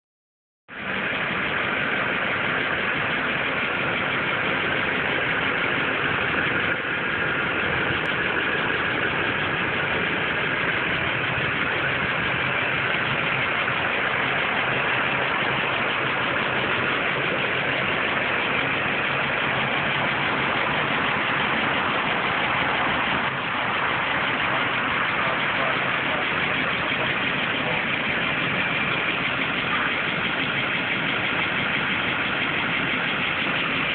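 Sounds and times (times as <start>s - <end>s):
truck engine idling: 0.7s - 33.9s.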